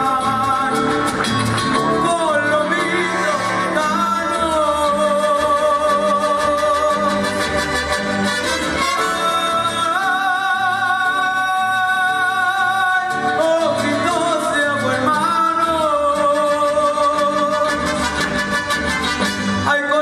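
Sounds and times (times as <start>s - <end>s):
orchestra playing: 0.6s - 12.1s, 13.0s - 20.0s.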